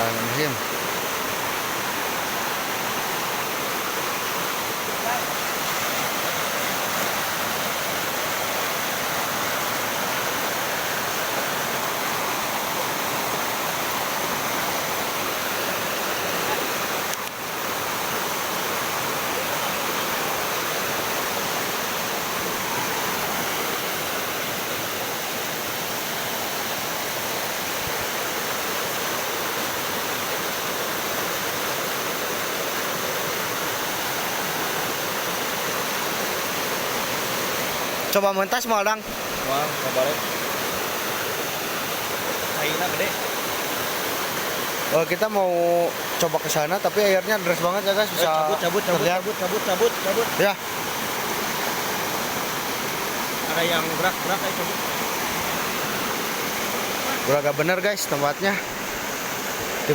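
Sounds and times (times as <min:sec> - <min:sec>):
loud rush of river water: 0:00.0 - 0:59.9.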